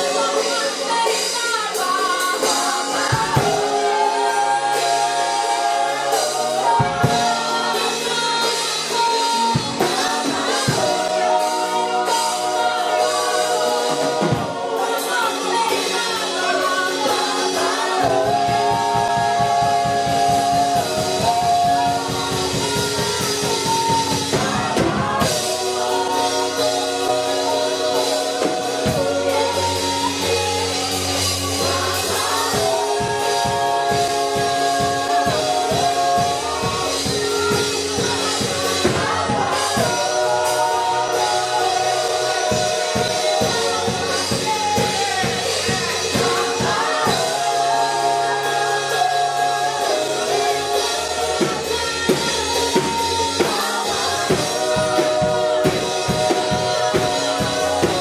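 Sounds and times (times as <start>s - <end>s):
instrumental backing: 0.0s - 58.0s
woman singing: 0.0s - 58.0s.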